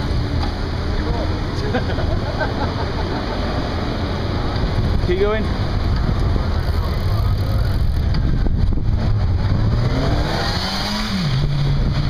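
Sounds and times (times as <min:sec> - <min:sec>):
traffic rumble: 0:00.0 - 0:12.0
vehicle engine accelerating: 0:00.0 - 0:12.0.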